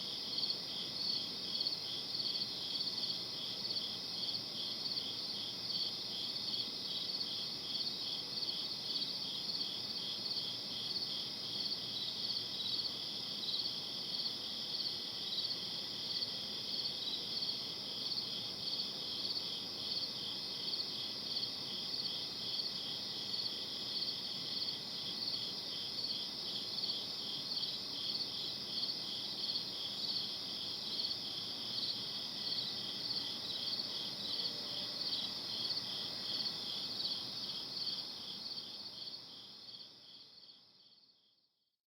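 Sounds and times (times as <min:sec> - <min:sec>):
crickets chirping: 0:00.0 - 0:41.3
faint background hiss: 0:00.0 - 0:41.5.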